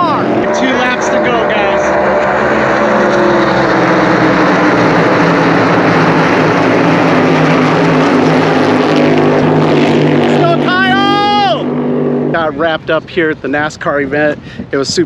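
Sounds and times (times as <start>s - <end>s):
race car engines roaring past: 0.0s - 15.0s.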